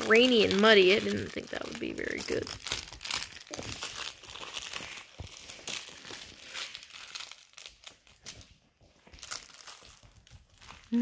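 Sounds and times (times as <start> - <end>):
fabric crinkling and rustling: 0.0 - 11.0.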